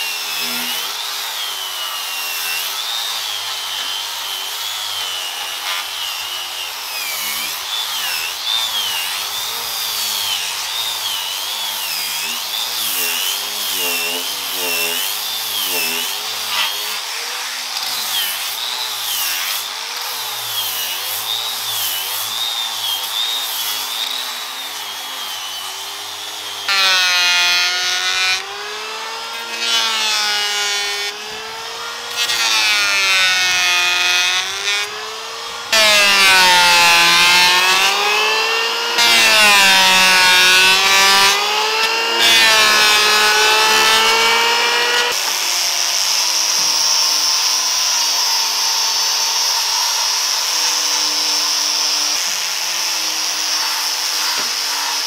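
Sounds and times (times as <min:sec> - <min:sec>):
electric planer shaving wood: 0:00.0 - 0:55.0
power sander whining on wood: 0:00.0 - 0:55.0.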